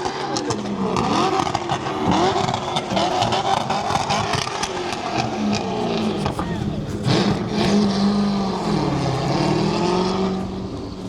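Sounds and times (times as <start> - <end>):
car engines revving: 0.0 - 11.0
exhaust pops: 0.4 - 11.0
tyre noise: 0.5 - 11.0.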